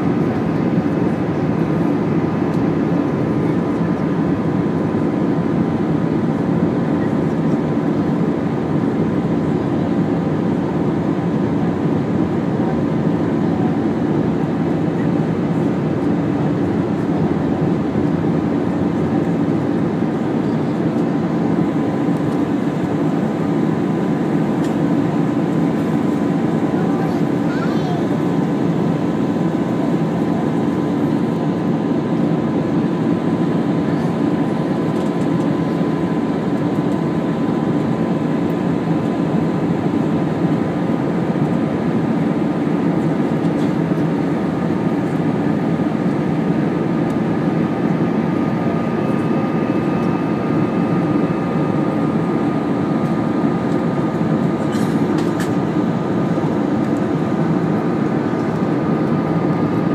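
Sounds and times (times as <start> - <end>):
jet airliner cabin drone: 0.0 - 59.9.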